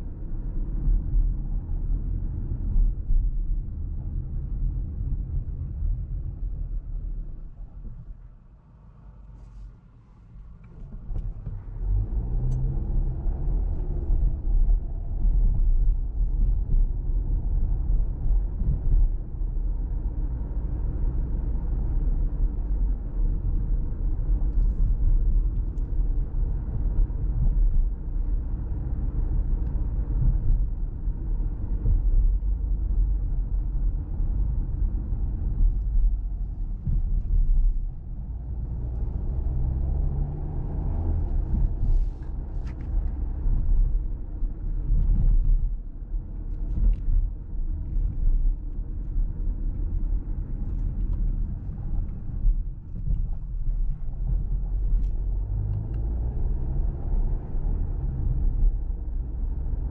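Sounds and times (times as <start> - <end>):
car engine rumble: 0.0 - 59.9
tyres on the road: 0.0 - 59.9.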